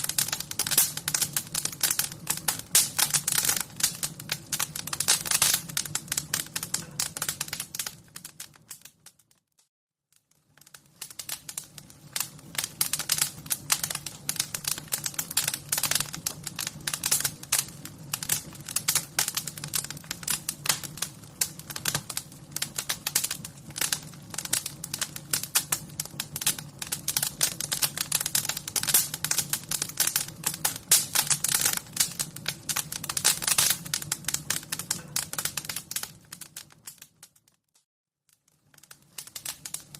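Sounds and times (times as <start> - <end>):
wood fire crackling: 0.0 - 9.4, 10.1 - 37.6, 38.3 - 39.9.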